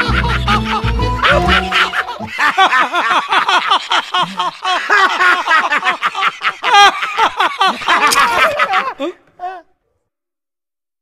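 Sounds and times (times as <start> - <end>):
men laughing hysterically: 0.0 - 9.7.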